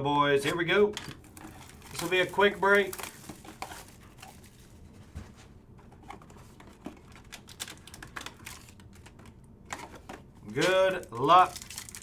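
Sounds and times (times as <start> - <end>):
card pack clicks and rustling: 1.0 - 4.7, 6.0 - 12.0.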